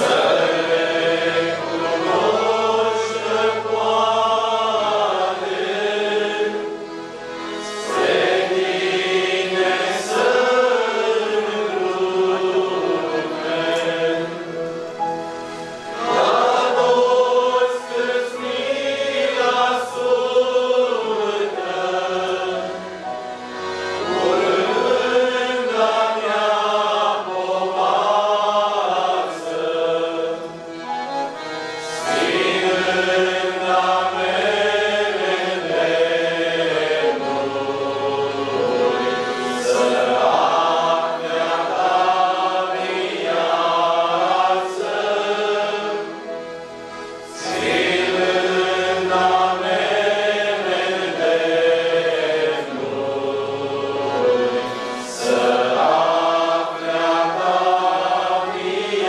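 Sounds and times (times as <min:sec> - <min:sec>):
accordions: 0:00.0 - 0:59.0
choir singing a hymn: 0:00.0 - 0:59.0
keyboard: 0:00.0 - 0:59.0.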